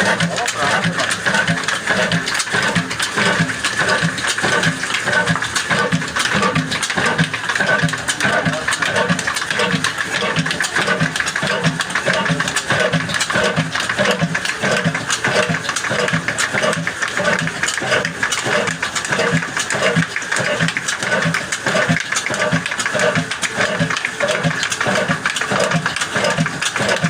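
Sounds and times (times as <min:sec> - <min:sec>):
slow-speed oil engine running: 0:00.0 - 0:27.0.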